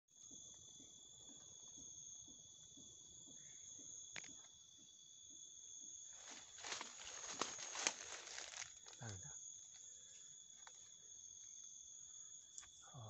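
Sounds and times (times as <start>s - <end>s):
crickets trilling: 0.1s - 13.0s.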